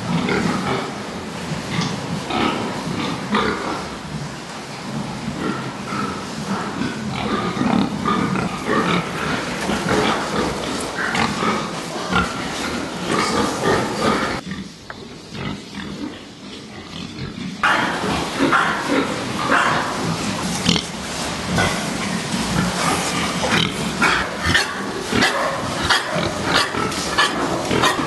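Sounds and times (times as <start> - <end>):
pigs grunting: 0.0 - 28.0.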